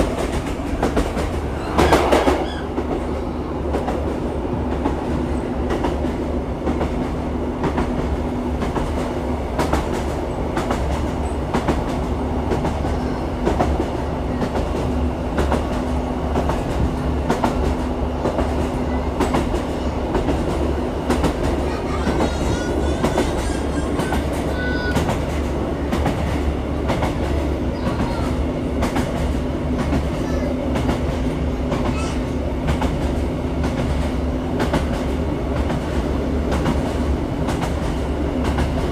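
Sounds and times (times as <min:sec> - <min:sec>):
train rumble and engine hum: 0:00.0 - 0:38.9.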